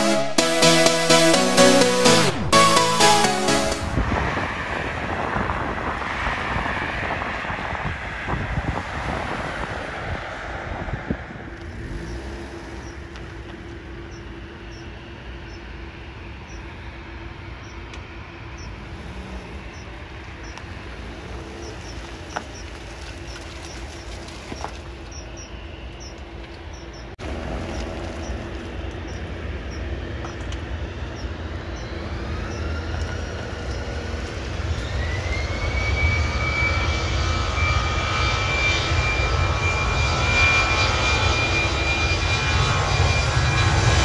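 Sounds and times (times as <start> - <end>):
jet engines rushing: 0.0 - 44.0
jet engine hum with low tone: 3.9 - 44.0.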